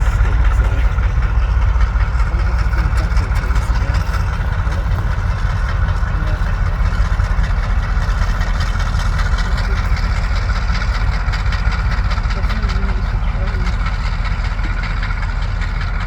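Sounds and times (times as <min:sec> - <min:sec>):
diesel locomotive idling: 0:00.0 - 0:16.0
high engine whine: 0:00.0 - 0:16.0.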